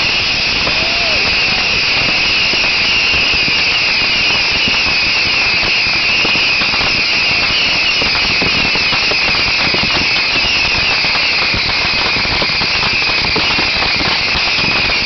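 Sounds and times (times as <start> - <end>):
firecrackers crackling: 0.0 - 15.0
high-pitched rocket hiss: 0.0 - 15.0.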